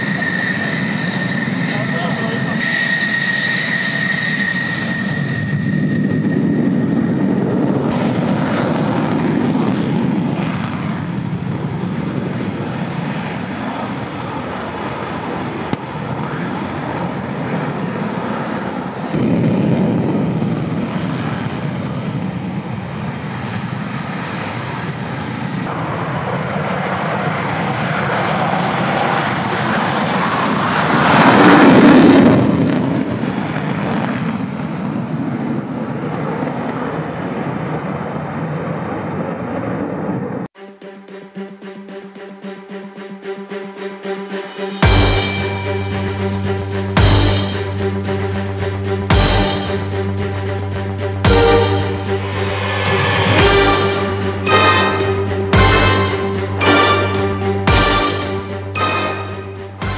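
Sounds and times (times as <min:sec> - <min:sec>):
jet engines roaring in afterburner: 0:00.0 - 0:40.5, 0:44.8 - 0:59.9.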